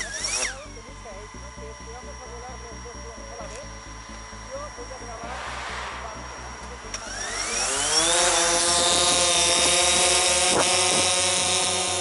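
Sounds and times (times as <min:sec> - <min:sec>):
drone propeller whine: 0:00.0 - 0:12.0.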